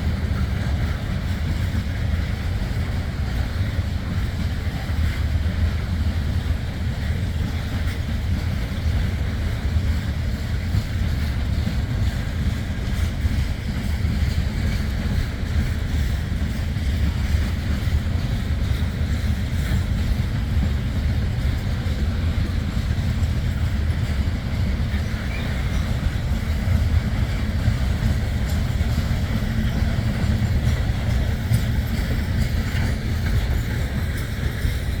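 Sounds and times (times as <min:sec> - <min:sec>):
freight train rumbling on rails: 0:00.0 - 0:35.0
wind buffeting microphone: 0:00.0 - 0:35.0.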